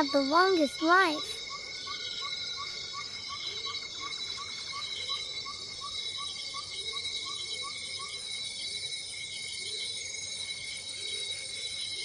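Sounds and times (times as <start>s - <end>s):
cicada drone: 0.0s - 12.0s
short insect chirps: 0.0s - 12.0s.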